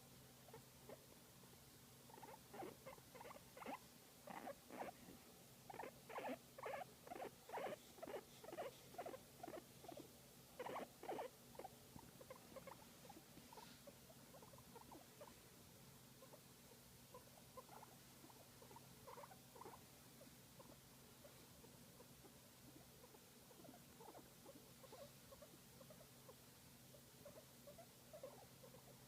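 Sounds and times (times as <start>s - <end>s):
guinea pig squeaking: 0.5s - 1.1s, 2.1s - 5.0s, 5.7s - 15.4s, 16.2s - 29.0s.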